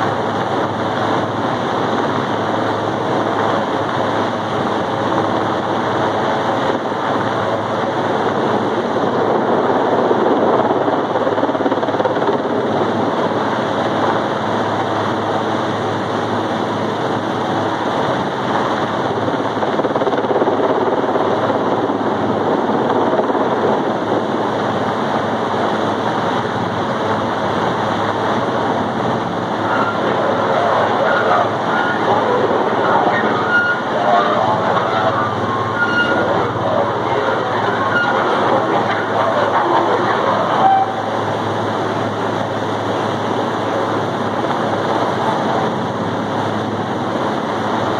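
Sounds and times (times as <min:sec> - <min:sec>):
helicopter hovering: 0:00.0 - 0:47.9.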